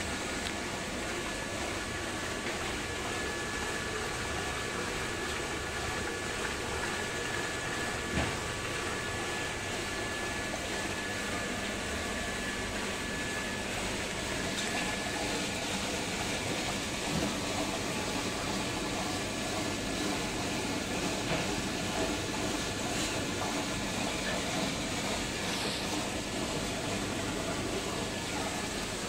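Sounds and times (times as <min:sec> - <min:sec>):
water flowing through pond filter: 0:00.0 - 0:29.0.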